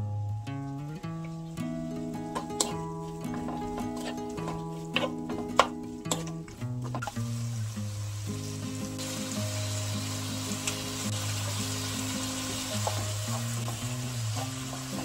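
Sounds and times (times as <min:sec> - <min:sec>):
food sizzling in frying pan: 0:00.7 - 0:15.0.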